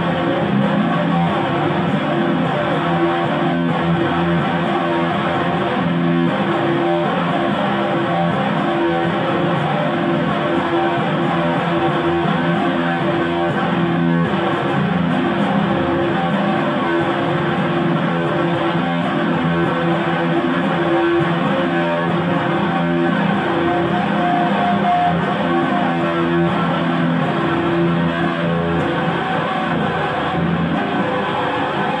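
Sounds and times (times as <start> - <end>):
strummed electric guitar: 0.0 - 32.0.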